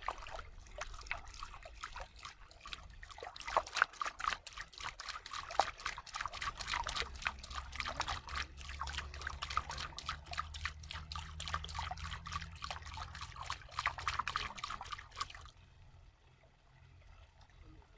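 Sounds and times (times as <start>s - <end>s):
water trickling and splashing: 0.0s - 17.9s.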